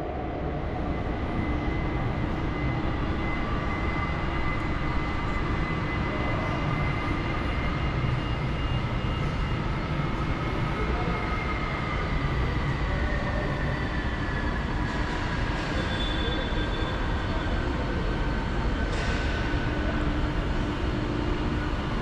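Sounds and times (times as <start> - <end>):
machinery low rumble and hiss: 0.0 - 22.0.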